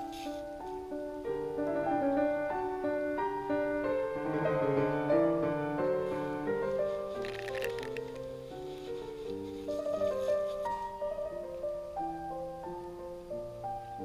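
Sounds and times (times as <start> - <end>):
piano tune: 0.0 - 14.0.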